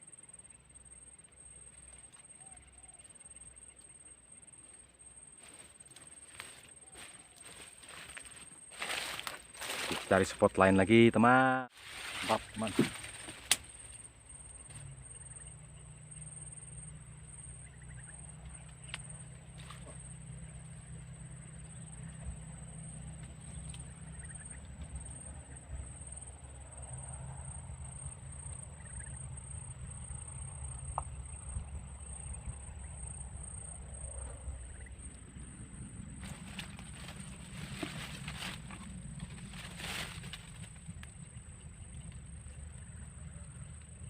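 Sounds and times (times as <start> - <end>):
low engine drone: 0.0 - 44.0.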